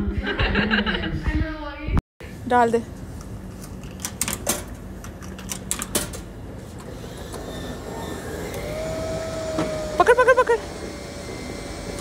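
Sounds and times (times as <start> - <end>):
vending machine hum and whine: 2.2 - 12.0.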